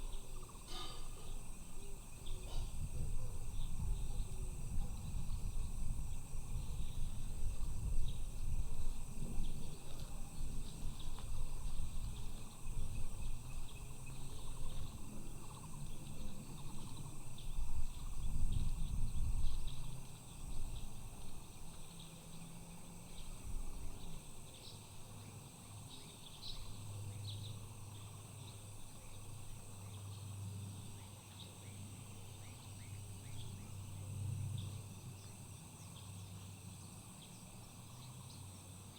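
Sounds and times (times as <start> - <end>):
insects chorus: 0.0 - 38.9
steady low hum: 0.0 - 38.9.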